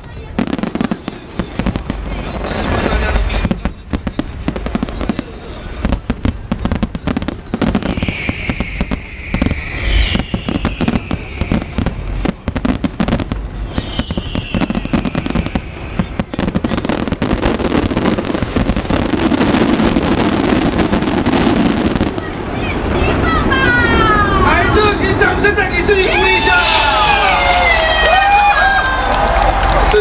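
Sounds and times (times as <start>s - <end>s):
fireworks crackling and banging: 0.0s - 30.0s
fireworks whistling: 0.4s - 25.2s, 25.9s - 28.8s.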